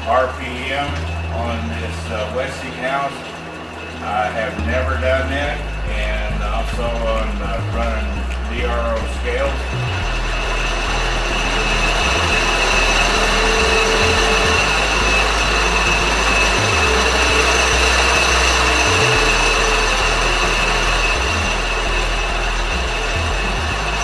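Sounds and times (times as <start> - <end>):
lathe motor whir and whine: 0.0 - 24.0.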